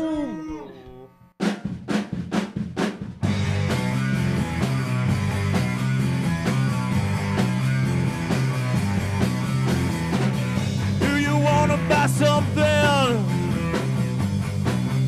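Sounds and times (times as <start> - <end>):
rock band playing: 1.4 - 15.0.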